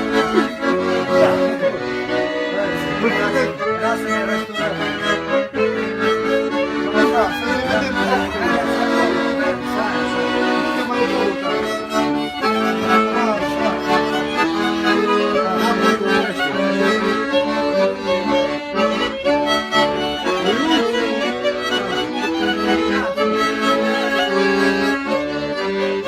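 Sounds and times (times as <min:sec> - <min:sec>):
accordion: 0:00.0 - 0:26.0
fiddle playing folk tune: 0:00.0 - 0:26.0.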